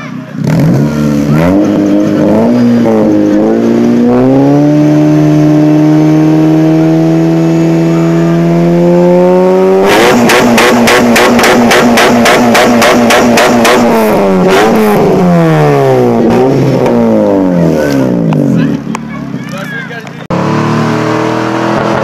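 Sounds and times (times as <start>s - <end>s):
car engine revving: 0.0s - 19.4s, 20.2s - 22.0s.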